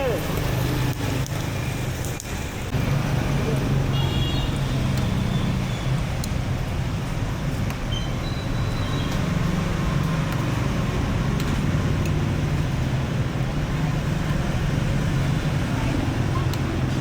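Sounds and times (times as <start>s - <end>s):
car engines running: 0.0s - 17.0s
road noise: 0.0s - 17.0s.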